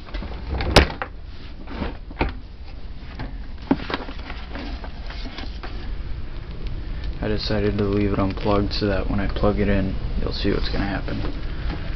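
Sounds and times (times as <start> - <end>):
low steady rumble: 0.0 - 11.9.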